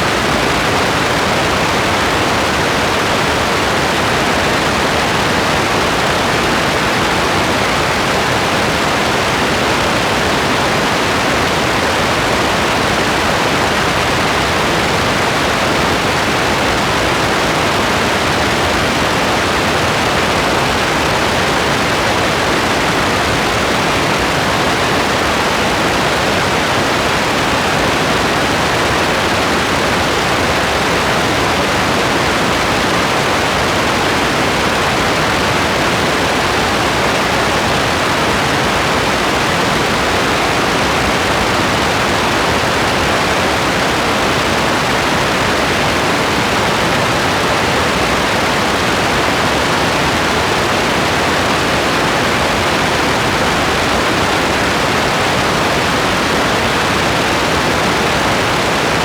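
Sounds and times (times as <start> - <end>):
steady dense rain: 0.0 - 59.0.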